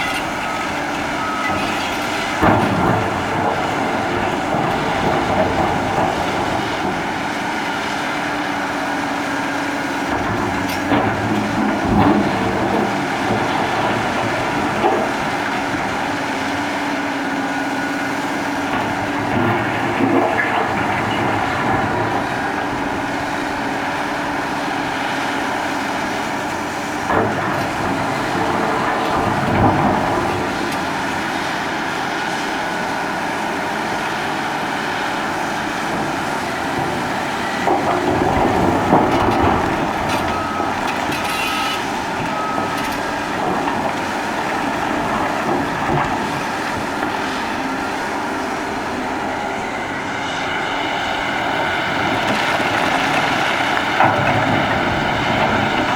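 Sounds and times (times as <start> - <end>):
mining shovel diesel and hydraulic drone: 0.0 - 55.9.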